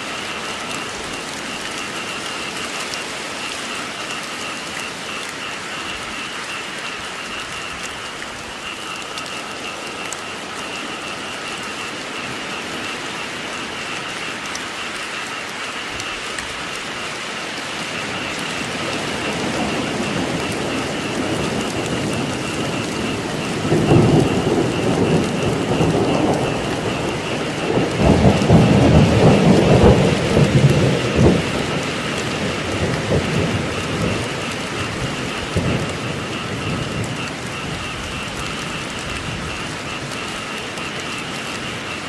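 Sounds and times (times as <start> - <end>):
heavy rain: 0.0 - 42.0
thunder rumbling: 0.0 - 42.0.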